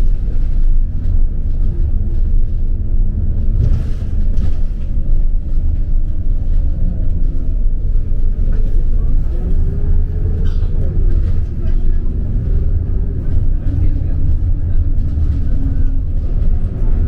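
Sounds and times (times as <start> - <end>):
vehicle rumbling in motion: 0.0 - 17.0.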